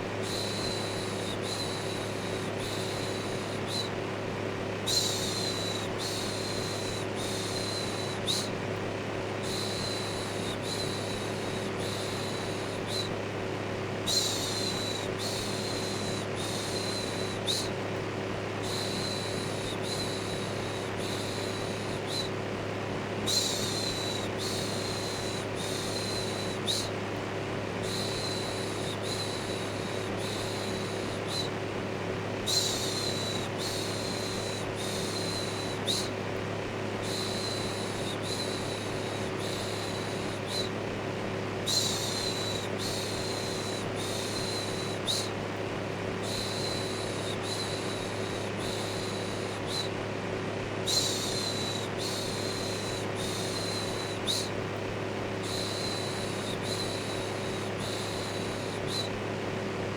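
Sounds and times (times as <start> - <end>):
electric fan humming: 0.0 - 59.9.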